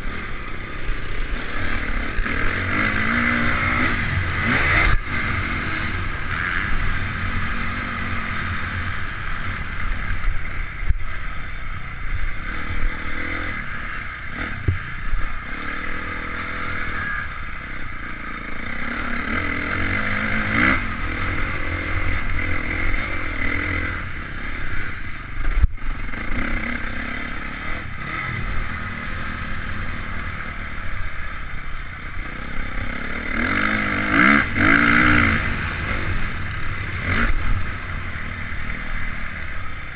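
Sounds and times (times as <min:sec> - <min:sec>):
bike rattling and scraping: 0:00.0 - 0:39.9
motorcycle engine revving: 0:00.0 - 0:39.9.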